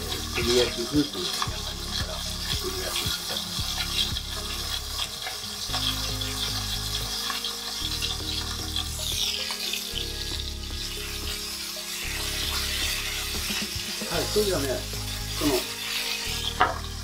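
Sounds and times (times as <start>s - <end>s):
chicken sizzling in a skillet: 0.0s - 17.0s.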